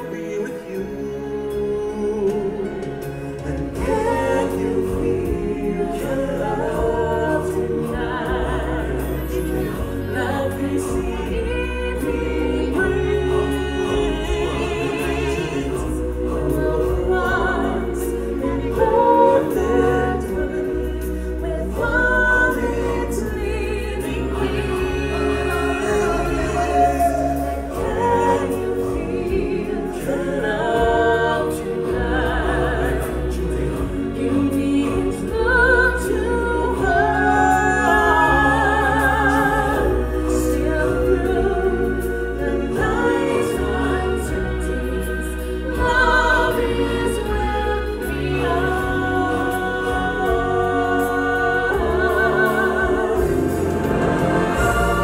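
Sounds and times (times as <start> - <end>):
choir singing: 0.0 - 55.0
recorded accompaniment with bass: 0.0 - 55.0.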